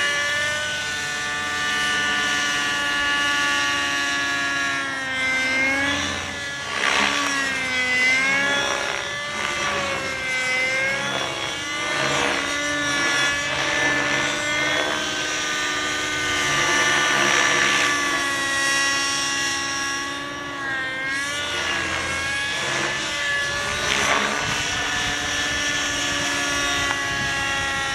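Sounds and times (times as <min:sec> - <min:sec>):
rc helicopter engine and rotors whine: 0:00.0 - 0:27.9.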